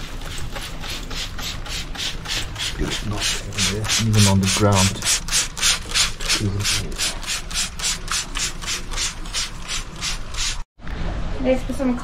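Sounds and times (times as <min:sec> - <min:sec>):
rhythmic scraping: 0:00.0 - 0:10.6.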